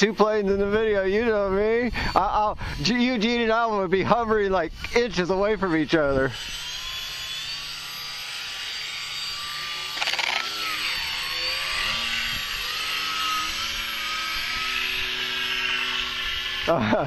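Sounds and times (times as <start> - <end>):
model plane engines buzzing: 0.0 - 17.0.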